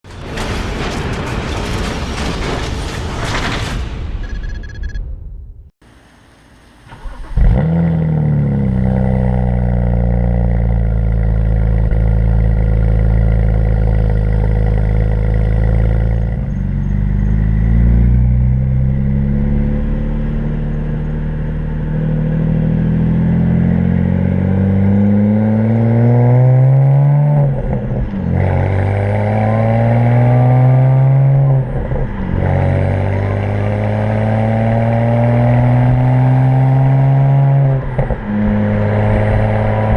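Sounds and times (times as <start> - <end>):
car engine accelerating hard: 7.0 - 39.9.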